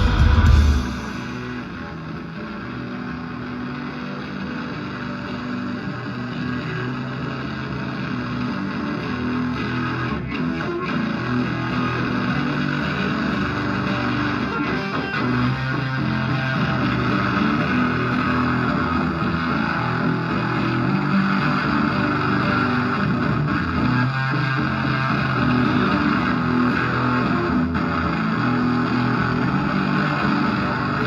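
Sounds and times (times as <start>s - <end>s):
bass line: 0.0s - 31.0s
electric guitar: 0.0s - 31.0s.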